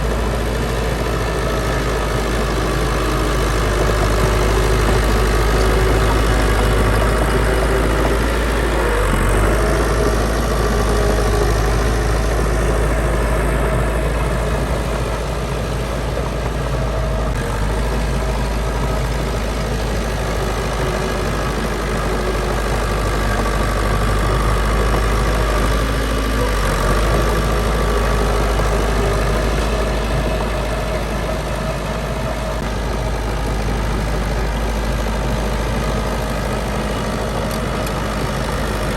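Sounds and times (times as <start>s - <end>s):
heavy diesel engine rumbling: 0.0s - 38.9s.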